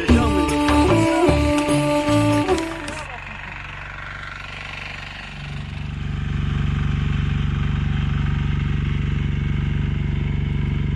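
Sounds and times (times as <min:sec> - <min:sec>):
engine running steadily: 0:00.0 - 0:10.9.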